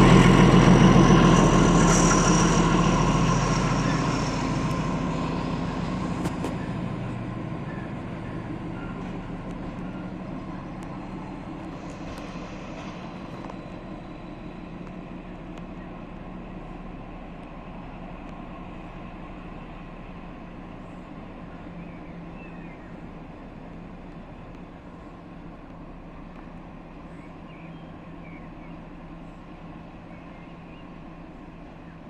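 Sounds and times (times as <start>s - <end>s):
diesel locomotive engine drone: 0.0s - 32.0s
rail yard background noise: 0.0s - 32.0s.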